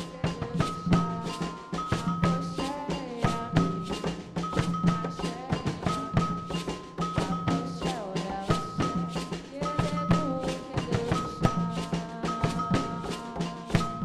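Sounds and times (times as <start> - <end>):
percussion ensemble drumming: 0.0 - 14.0.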